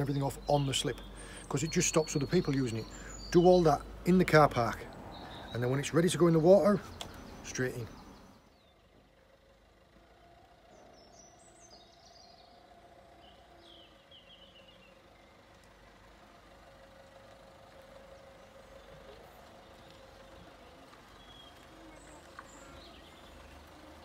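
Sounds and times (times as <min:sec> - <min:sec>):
bird chirps: 0:00.0 - 0:09.0, 0:10.7 - 0:16.1, 0:18.2 - 0:24.0
van engine reversing: 0:00.0 - 0:24.0.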